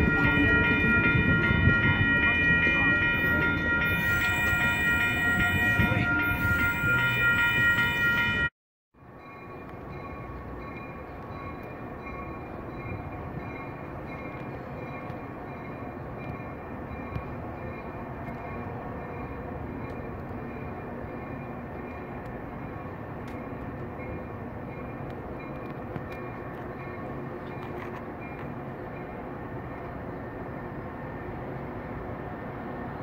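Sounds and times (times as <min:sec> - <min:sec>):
train rumbling over steel bridge: 0:00.0 - 0:33.0.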